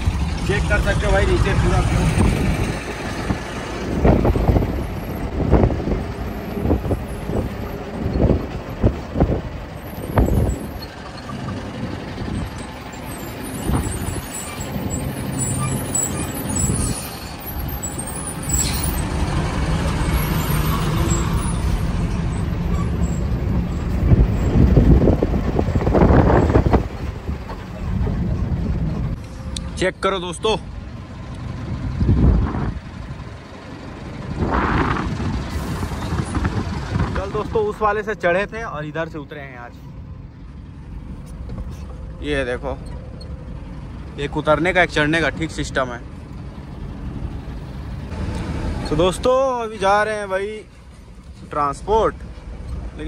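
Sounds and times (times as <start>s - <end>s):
road noise: 0.0s - 53.0s
truck engine drone: 0.0s - 53.0s.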